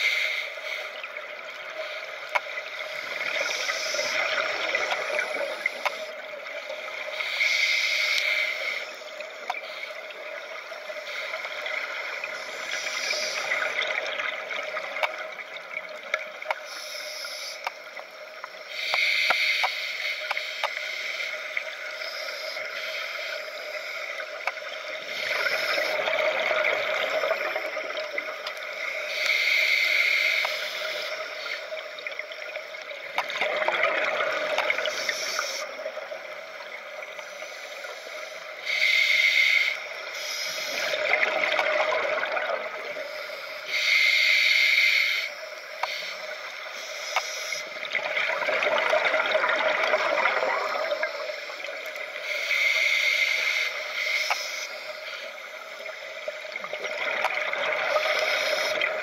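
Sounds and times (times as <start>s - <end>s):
exhaled bubbles gurgling: 0.0s - 8.0s, 8.6s - 16.8s, 23.7s - 44.1s, 45.6s - 59.0s
steady hiss: 0.0s - 41.9s, 42.8s - 59.0s.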